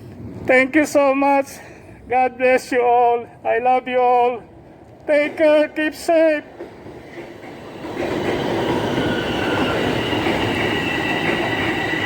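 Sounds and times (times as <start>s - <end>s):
subway train running: 0.0s - 12.0s.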